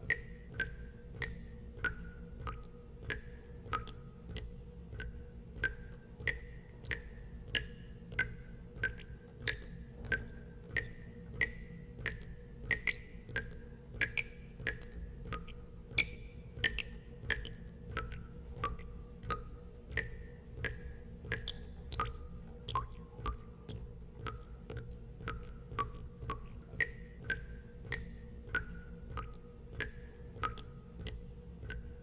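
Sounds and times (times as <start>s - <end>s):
water drops plinking into water: 0.0s - 32.0s.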